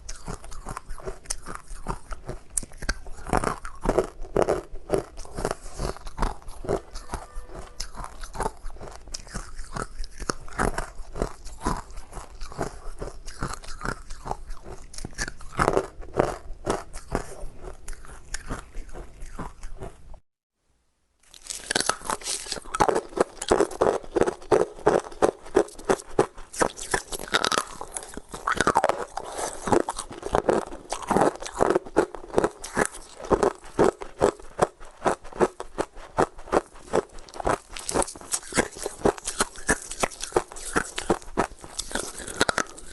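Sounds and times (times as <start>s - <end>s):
ice being chewed: 0.0s - 20.2s, 21.2s - 42.9s.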